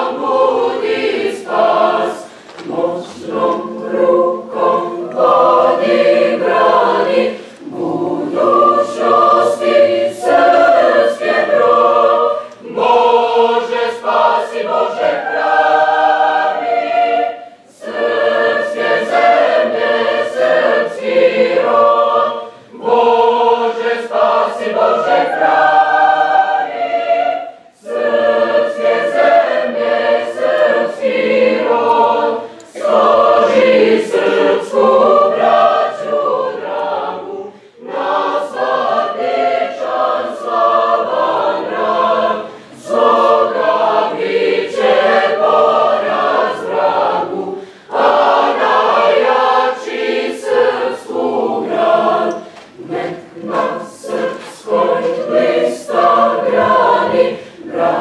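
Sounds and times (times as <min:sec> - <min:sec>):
choir singing long chords: 0:00.0 - 0:58.0.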